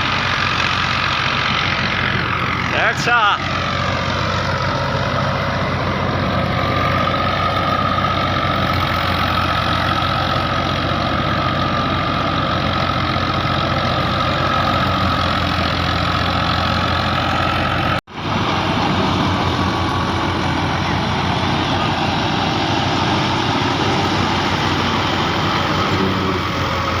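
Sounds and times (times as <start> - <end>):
machinery engine running: 0.0 - 27.0.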